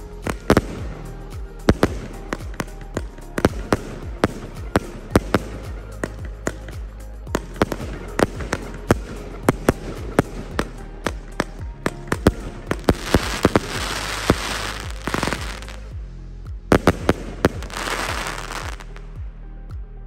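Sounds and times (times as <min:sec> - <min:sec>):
fireworks crackling: 0:00.0 - 0:16.0, 0:16.7 - 0:19.0
fireworks shots and bursts: 0:00.2 - 0:15.9, 0:16.7 - 0:19.0.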